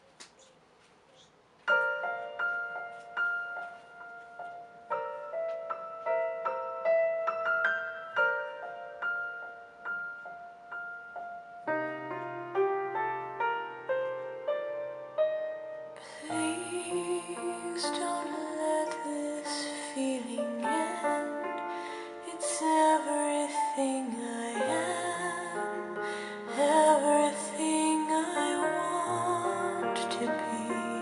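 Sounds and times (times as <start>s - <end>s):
slow piano ballad: 1.6s - 31.0s.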